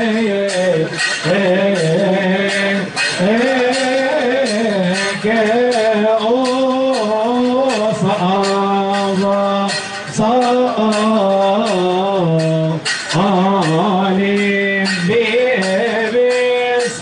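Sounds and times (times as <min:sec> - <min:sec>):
men singing a hymn: 0:00.0 - 0:17.0
percussion beat: 0:00.0 - 0:17.0.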